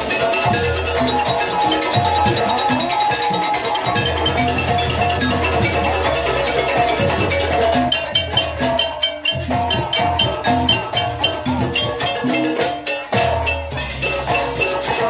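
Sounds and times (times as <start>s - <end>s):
busy drumming: 0.0s - 15.0s
knocking percussion strokes: 0.0s - 15.0s
pitched metal-keyed notes: 0.0s - 15.0s.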